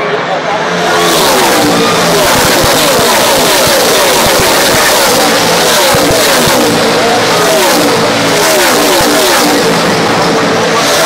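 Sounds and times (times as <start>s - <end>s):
race trucks passing at speed: 0.0s - 11.0s.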